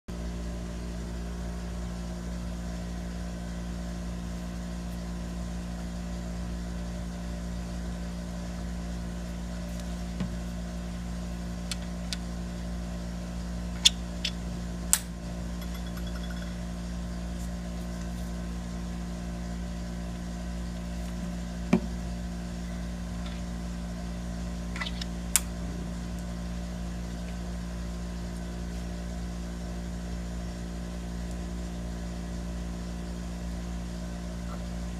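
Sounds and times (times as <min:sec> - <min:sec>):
low mechanical hum: 0:00.1 - 0:34.9.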